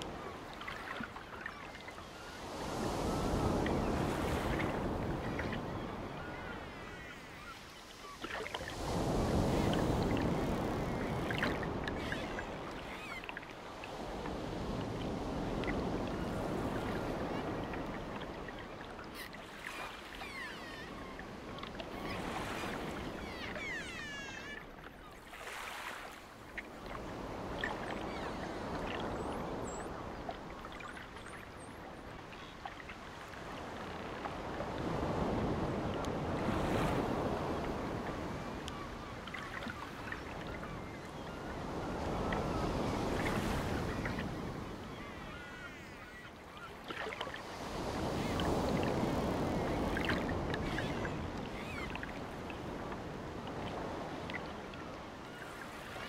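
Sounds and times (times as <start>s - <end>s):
sea water washing and surging: 0.0s - 56.0s.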